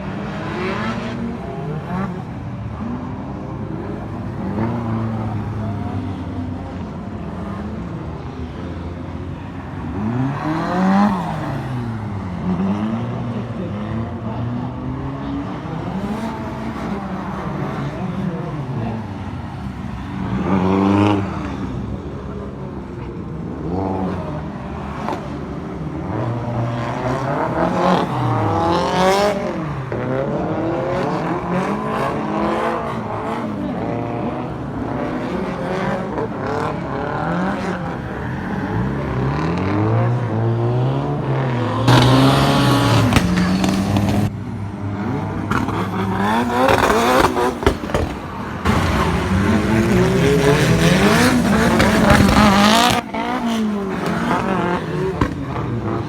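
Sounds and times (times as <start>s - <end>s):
car engines revving: 0.0s - 56.0s
tyre and road noise: 0.0s - 56.0s.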